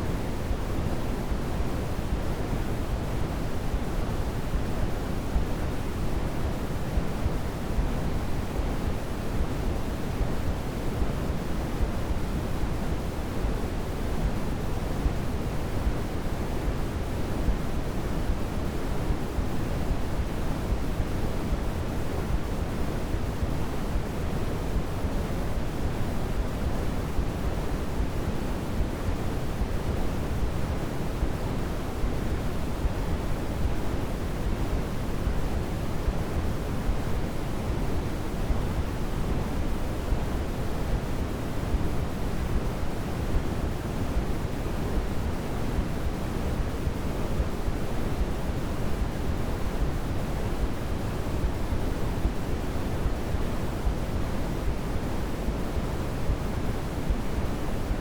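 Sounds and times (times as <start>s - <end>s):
low white noise rush: 0.0s - 58.0s.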